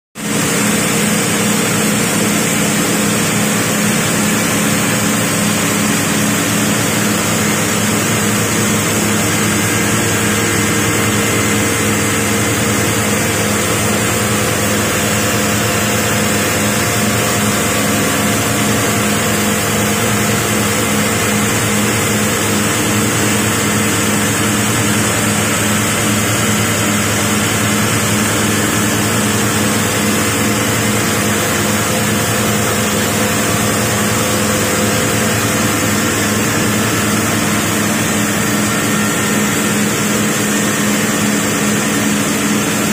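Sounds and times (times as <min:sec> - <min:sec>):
spinning machine drone: 0:00.2 - 0:42.9.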